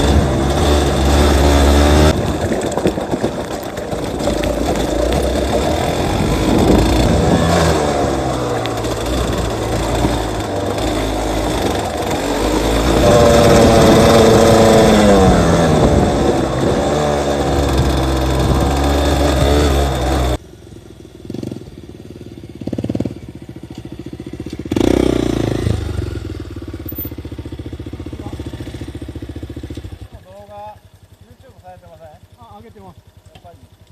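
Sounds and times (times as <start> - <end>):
dirt bike engine revving: 0.0 - 20.4, 21.2 - 30.1.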